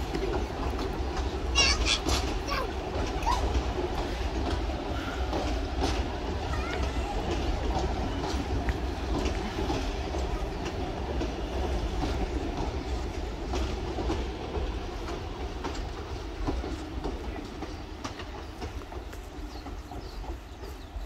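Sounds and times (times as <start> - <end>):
train rumbling over bridge: 0.0 - 21.0
wheels clicking on rails: 0.0 - 21.0.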